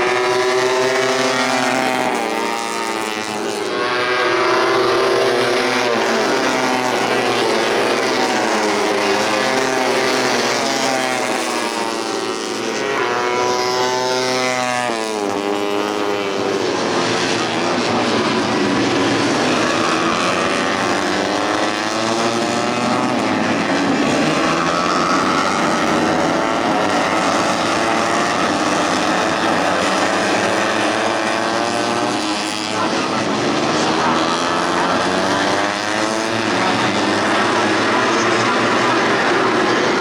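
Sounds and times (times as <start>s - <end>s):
race motorcycles revving: 0.0s - 40.0s.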